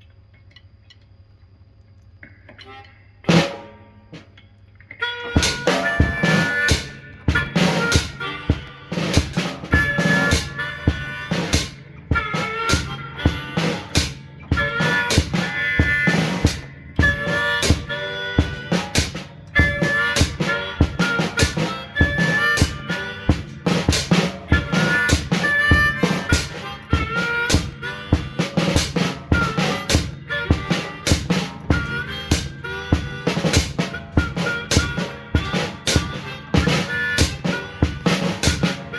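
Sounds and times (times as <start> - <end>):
drum kit beat: 3.3 - 4.4, 5.0 - 38.9
harmonica wailing blues: 4.8 - 38.9.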